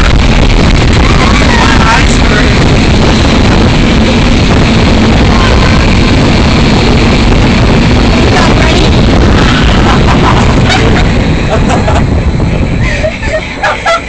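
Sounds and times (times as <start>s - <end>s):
low hum: 0.0s - 14.0s
wind buffeting microphone: 0.0s - 14.0s.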